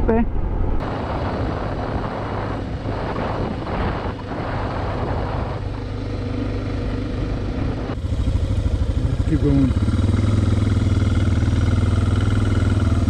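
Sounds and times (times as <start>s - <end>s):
rushing noise: 0.3s - 12.8s
motorcycle engine running: 0.8s - 13.0s.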